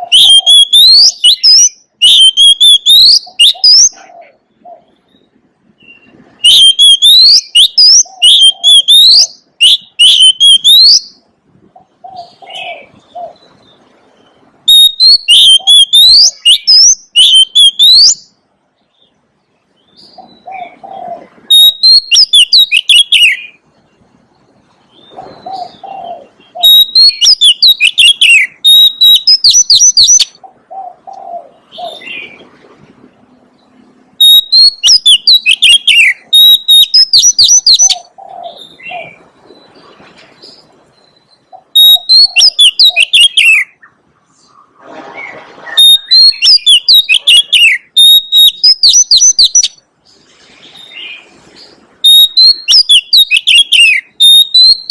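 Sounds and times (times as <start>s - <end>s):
bird singing whistled notes: 0.0s - 4.1s, 4.7s - 11.3s, 12.0s - 19.2s, 19.8s - 23.6s, 24.9s - 30.4s, 33.6s - 39.8s, 40.4s - 43.9s, 45.2s - 49.8s, 50.8s - 54.9s.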